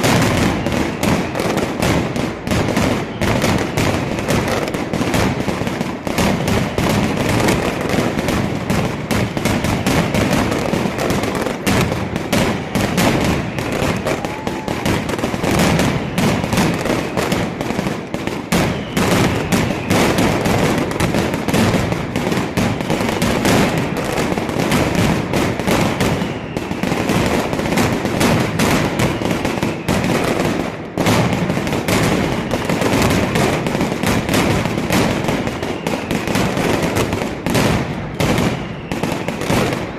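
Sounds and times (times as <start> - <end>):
firecrackers exploding: 0.0 - 39.9.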